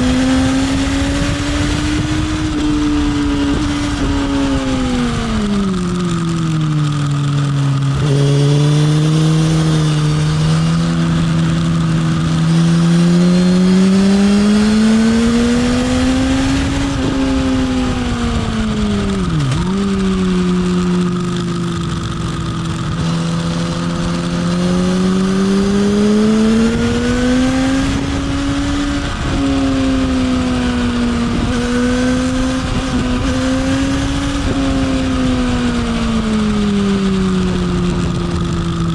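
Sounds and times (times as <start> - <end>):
motorcycle engine racing: 0.0 - 38.9.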